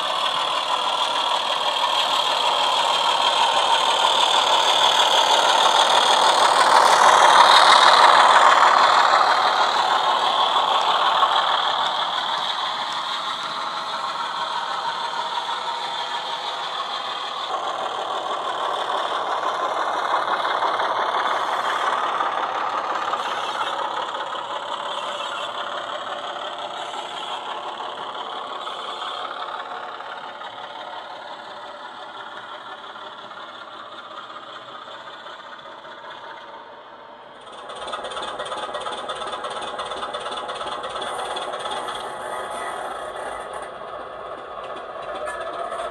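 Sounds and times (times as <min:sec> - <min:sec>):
diesel engine sound from small speaker: 0:00.0 - 0:45.9
model wagons rattling over track: 0:00.0 - 0:45.9.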